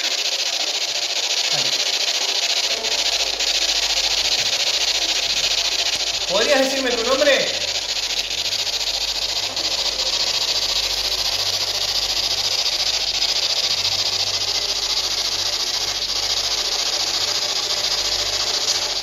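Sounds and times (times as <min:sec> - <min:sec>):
steady loud hiss: 0:00.0 - 0:19.0.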